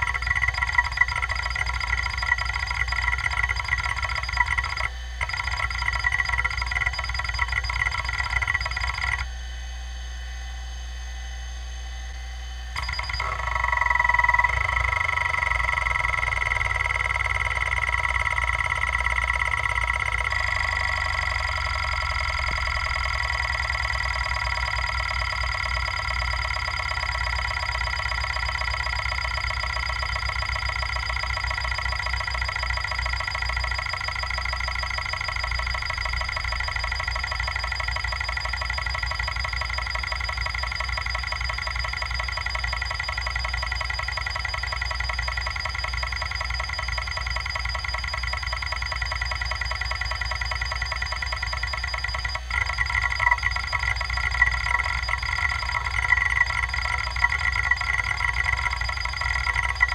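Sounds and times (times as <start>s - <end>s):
hard drive head buzzing rattle: 0.0s - 9.5s, 12.0s - 59.9s
hard drive high whine: 0.0s - 59.9s.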